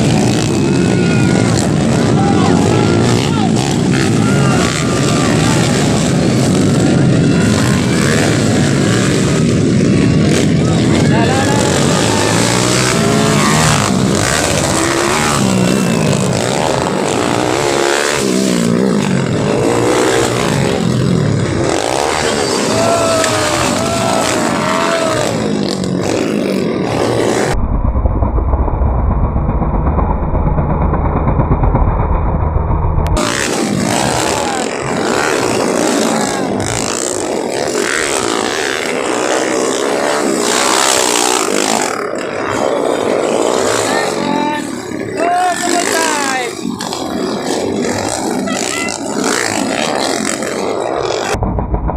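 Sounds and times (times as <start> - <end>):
motorcycle engines racing: 0.0 - 27.6, 33.0 - 51.4.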